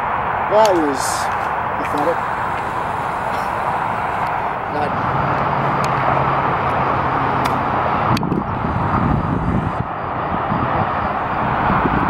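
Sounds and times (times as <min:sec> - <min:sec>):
rushing outdoor background: 0:00.0 - 0:12.0.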